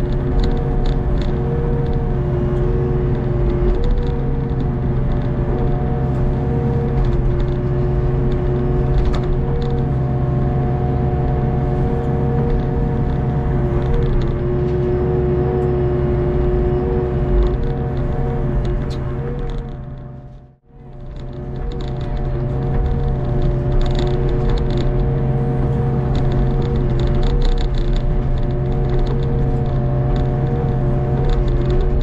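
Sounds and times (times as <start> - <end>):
diesel engine running: 0.0 - 32.0
hydraulic whine: 0.0 - 32.0.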